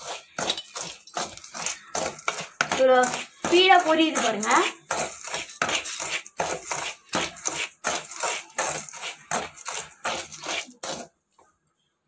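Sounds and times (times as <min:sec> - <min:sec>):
scoop scraping chickpeas in salt: 0:00.0 - 0:11.2.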